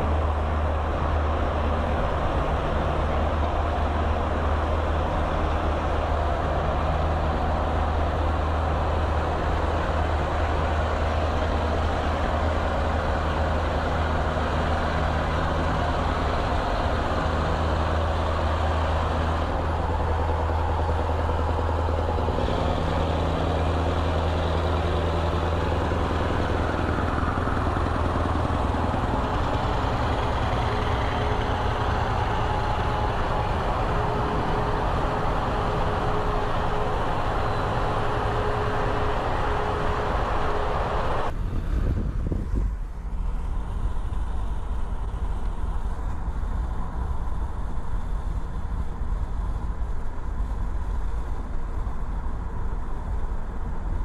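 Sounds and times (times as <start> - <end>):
diesel truck engine droning: 0.0 - 54.0
tyre and air noise: 0.0 - 54.0.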